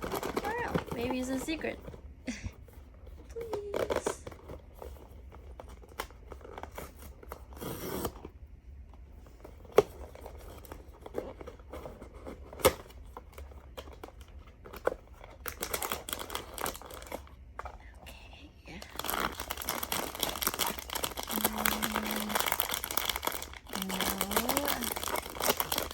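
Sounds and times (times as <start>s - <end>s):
cardboard and plastic tearing: 0.0s - 1.9s, 3.2s - 8.4s, 9.4s - 17.6s, 18.9s - 25.9s
packaging rustling and crinkling: 0.0s - 18.0s, 18.7s - 25.9s.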